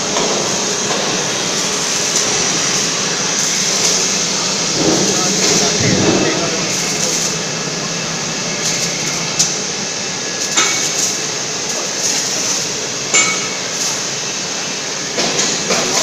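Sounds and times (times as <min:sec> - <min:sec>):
machinery noise: 0:00.0 - 0:16.0.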